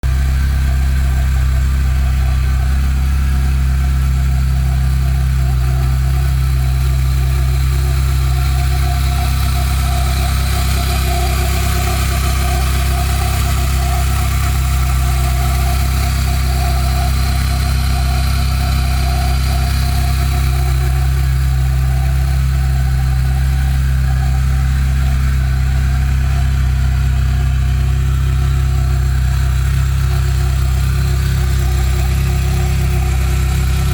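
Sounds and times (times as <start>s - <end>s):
car engine idling: 0.0s - 33.9s
mid-pitched engine tone: 0.0s - 33.9s.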